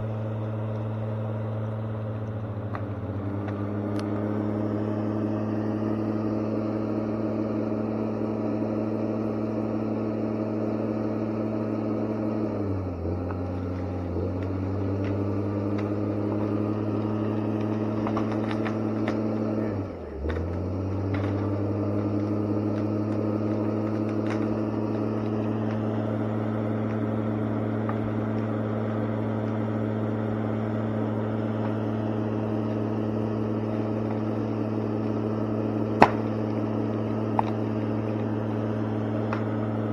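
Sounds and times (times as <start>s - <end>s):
heavy machine diesel engine running: 0.0s - 39.9s.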